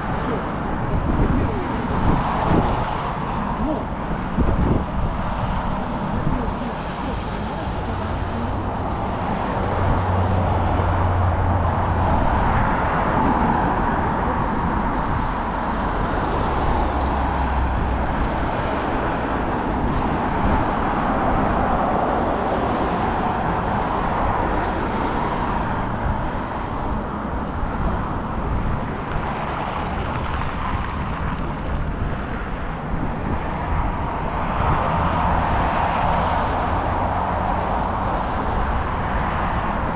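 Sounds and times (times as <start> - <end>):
cars passing on busy street: 0.0 - 39.9.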